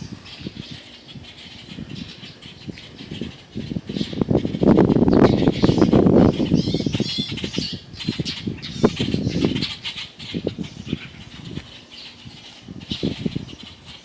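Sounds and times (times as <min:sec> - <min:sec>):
baby bird squawking: 0:00.0 - 0:14.0.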